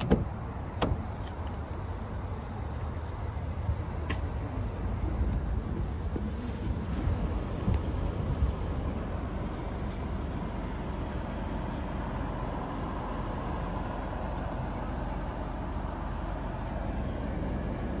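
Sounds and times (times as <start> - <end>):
car engine idling in cabin: 0.0 - 18.0.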